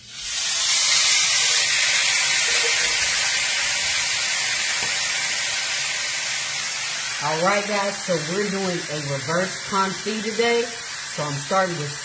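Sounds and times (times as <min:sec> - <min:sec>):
steak sizzling in a skillet: 0:00.0 - 0:12.0.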